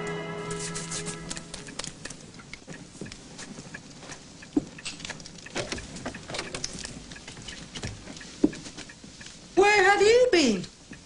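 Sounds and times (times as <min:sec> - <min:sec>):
light crackles and ticks: 0:01.2 - 0:11.0.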